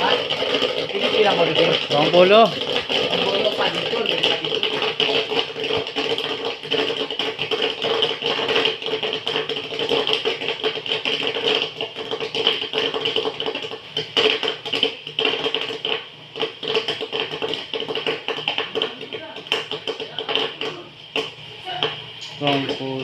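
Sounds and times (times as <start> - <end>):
machine hum: 0.0 - 23.0
popcorn popping: 0.0 - 23.0.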